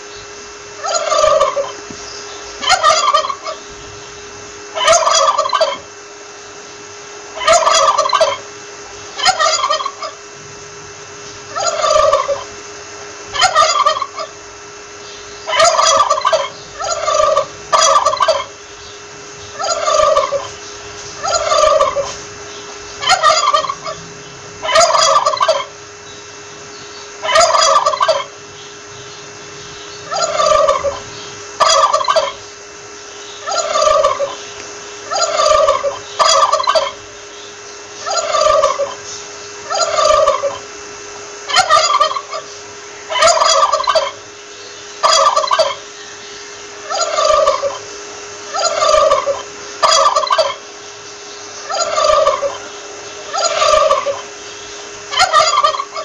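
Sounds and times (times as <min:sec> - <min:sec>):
turkey gobbling: 0:00.7 - 0:03.8, 0:04.6 - 0:05.9, 0:07.3 - 0:10.3, 0:11.4 - 0:12.6, 0:13.2 - 0:18.8, 0:19.4 - 0:32.6, 0:33.2 - 0:37.3, 0:37.9 - 0:40.8, 0:41.4 - 0:56.0.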